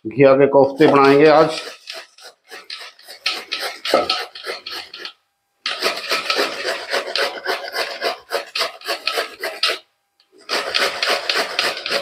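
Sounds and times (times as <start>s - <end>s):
gourd grated on hand grater: 0.7s - 12.0s.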